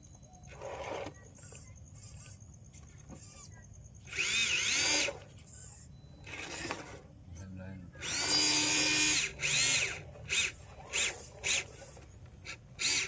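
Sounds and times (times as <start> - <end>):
rc car electric motor whining: 0.4 - 7.0, 8.0 - 13.0.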